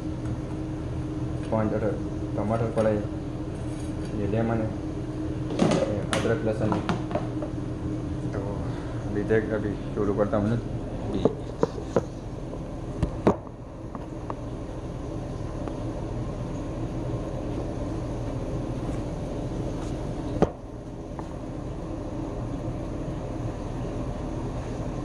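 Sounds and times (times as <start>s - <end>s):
kitchen equipment humming: 0.0s - 25.0s.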